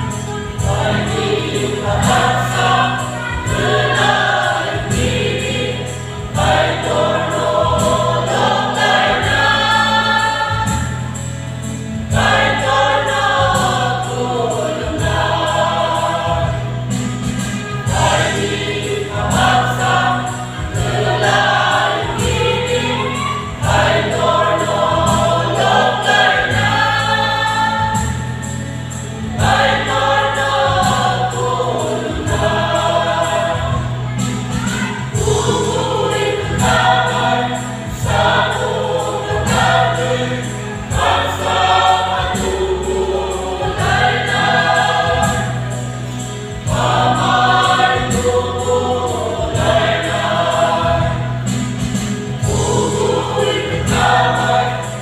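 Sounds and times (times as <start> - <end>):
choir singing a gospel hymn: 0.0 - 55.0.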